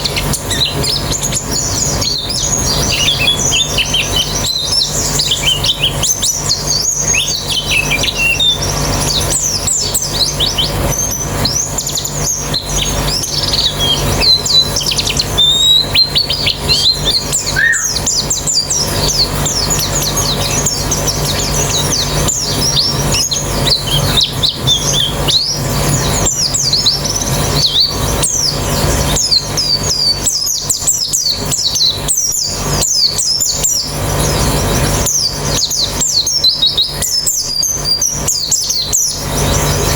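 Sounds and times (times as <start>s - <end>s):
birds chorus of twittering chirps: 0.0s - 39.9s
steady low hum: 0.0s - 39.9s.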